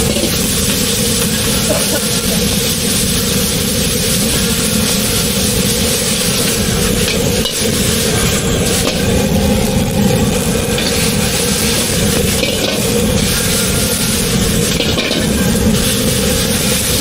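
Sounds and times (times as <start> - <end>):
loud steady rushing noise: 0.0 - 17.0
rice sizzling in a wok: 0.0 - 17.0.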